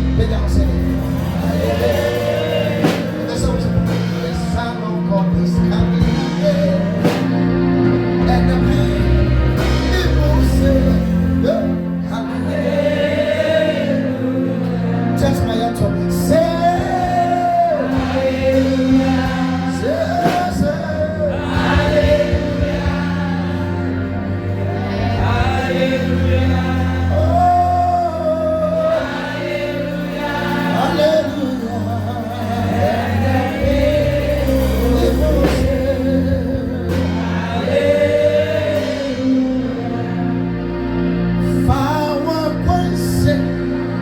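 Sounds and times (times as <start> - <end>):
choir singing gospel song: 0.0 - 44.0
sustained bass and chords: 0.0 - 44.0.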